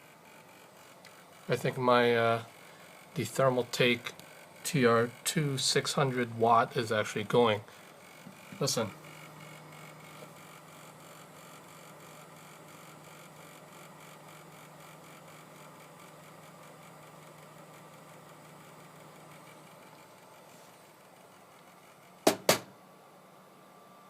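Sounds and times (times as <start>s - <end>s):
computer power supply humming: 0.0s - 24.0s.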